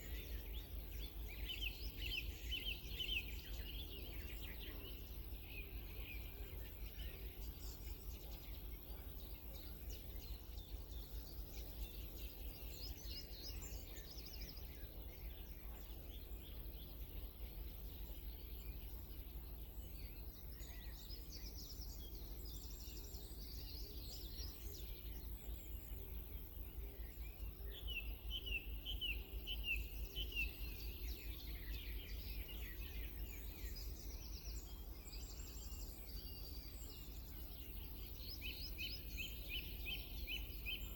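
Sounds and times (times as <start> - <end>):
birds singing and chirping: 0.0 - 40.9.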